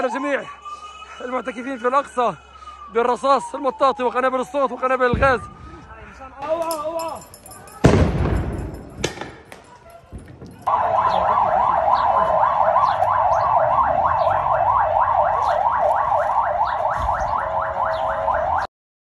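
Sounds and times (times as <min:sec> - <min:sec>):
emergency siren wailing: 0:00.0 - 0:07.9, 0:10.3 - 0:18.7.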